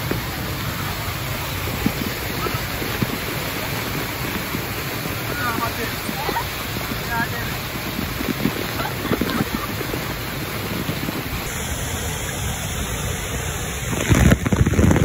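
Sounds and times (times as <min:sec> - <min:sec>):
water hitting microphone: 0:00.0 - 0:15.0
waterfall rushing: 0:00.0 - 0:15.0.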